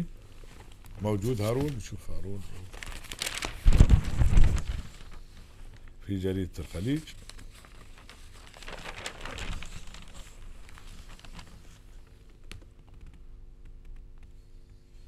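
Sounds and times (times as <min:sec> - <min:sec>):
newspaper pages rustling: 0:00.2 - 0:14.6.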